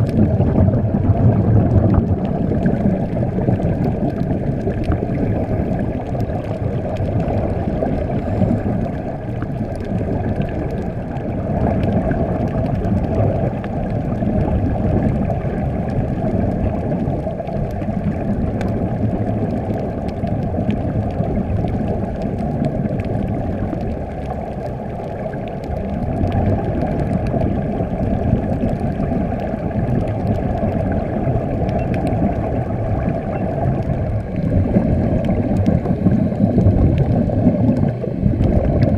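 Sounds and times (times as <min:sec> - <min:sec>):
air bubbles: 0:00.0 - 0:38.9
muffled underwater rumble: 0:00.0 - 0:38.9.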